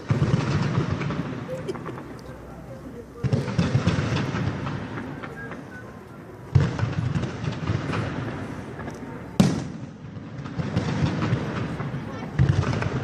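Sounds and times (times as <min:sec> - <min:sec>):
loud sharp firework bang: 0:00.0 - 0:02.1, 0:03.2 - 0:05.9, 0:06.5 - 0:13.0
fireworks crackling bangs: 0:00.0 - 0:13.0.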